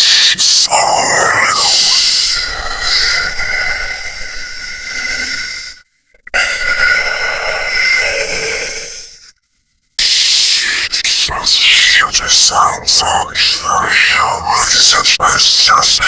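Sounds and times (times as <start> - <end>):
breathy hissing whispers: 0.0 - 9.4, 10.0 - 16.0.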